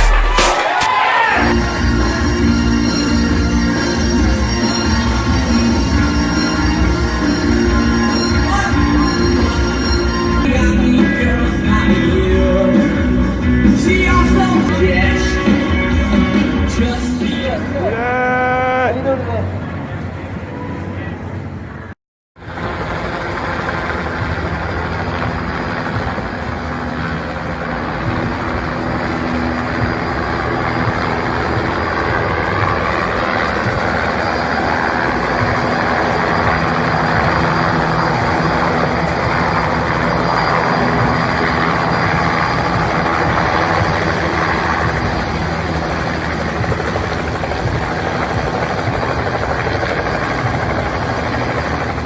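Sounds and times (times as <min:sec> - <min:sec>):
helicopter rotor and engine: 0:01.4 - 0:19.2, 0:22.4 - 0:52.0.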